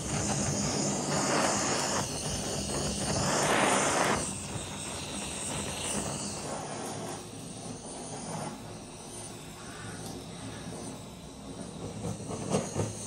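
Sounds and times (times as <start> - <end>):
blowtorch flame hissing: 0.0 - 13.0.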